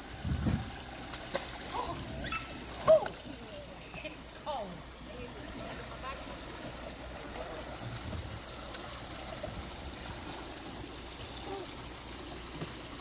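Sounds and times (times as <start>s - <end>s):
water flowing and trickling: 0.0s - 13.0s.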